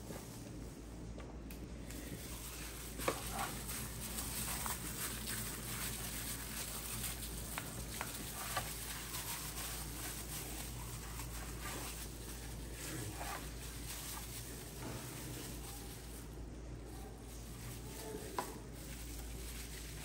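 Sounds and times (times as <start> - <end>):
plastic gloves crinkling: 0.0 - 20.0
steady low hum: 0.0 - 20.0.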